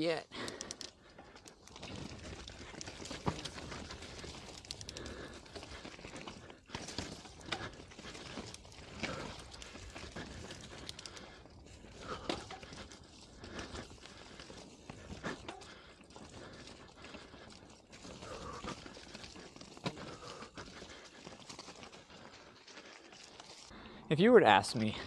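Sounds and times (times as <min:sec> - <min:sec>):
bike knocking and rattling: 0:00.4 - 0:23.7
tyres rolling over rocks: 0:01.3 - 0:23.7.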